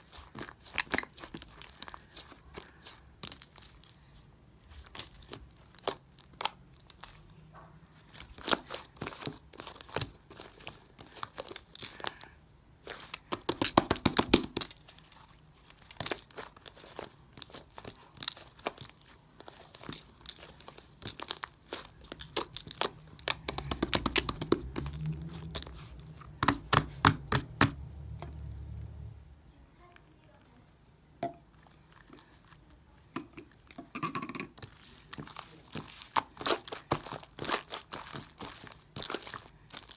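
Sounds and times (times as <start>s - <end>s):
slime crackling and popping: 0.0s - 4.0s, 4.6s - 7.4s, 8.0s - 28.2s, 34.5s - 39.9s
low steady hum: 0.0s - 39.9s.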